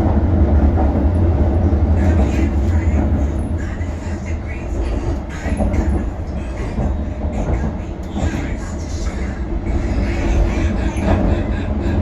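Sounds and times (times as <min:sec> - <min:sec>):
underground train rumbling: 0:00.0 - 0:12.0
wheels rattling on rails: 0:00.0 - 0:12.0.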